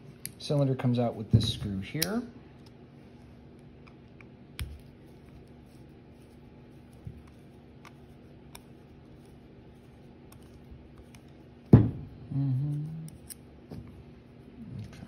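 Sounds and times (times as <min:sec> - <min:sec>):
low hum: 0:02.3 - 0:15.0.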